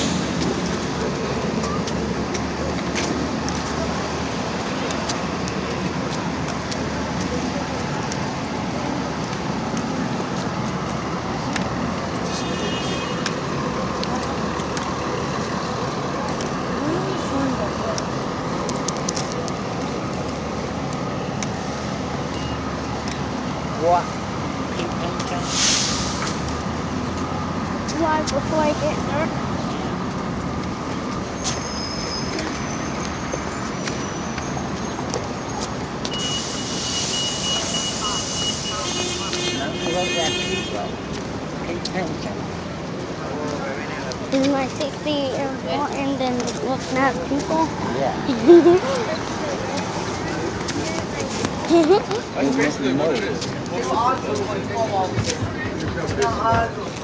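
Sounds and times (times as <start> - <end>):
bus engine rumble: 0.0 - 57.0
road noise: 0.0 - 57.0
street traffic: 0.0 - 57.0.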